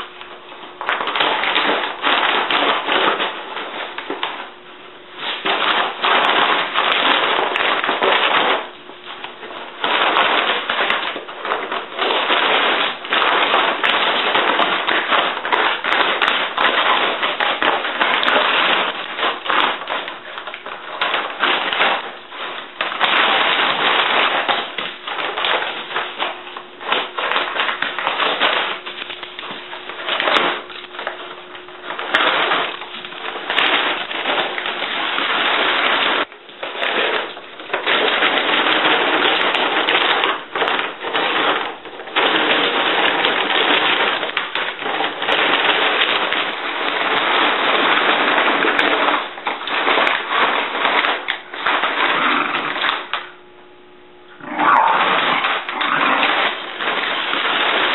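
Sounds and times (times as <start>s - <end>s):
paper bag crinkling and tearing: 0.0s - 53.5s, 54.3s - 57.9s.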